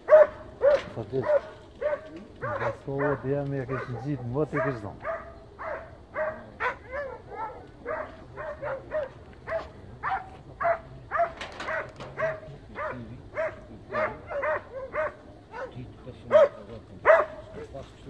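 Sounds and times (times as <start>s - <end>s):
hound baying: 0.0s - 17.9s.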